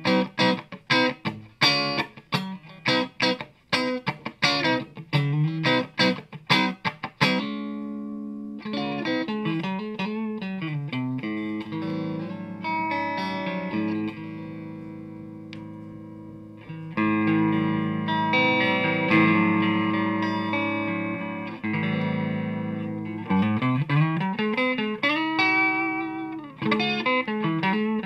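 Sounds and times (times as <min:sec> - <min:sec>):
electric guitar through amplifier: 0:00.0 - 0:28.0.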